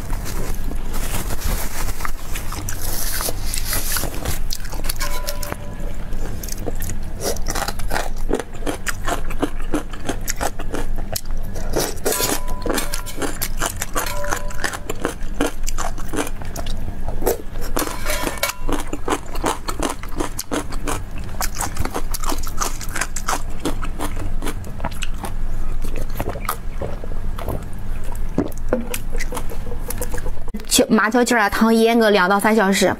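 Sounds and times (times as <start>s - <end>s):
chewing and crunching food: 0.0s - 30.6s.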